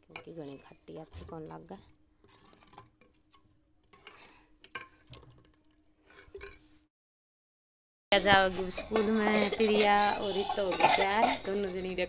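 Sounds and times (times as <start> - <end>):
metal ladle scraping pot: 0.0 - 5.2, 6.0 - 6.9, 8.2 - 12.0.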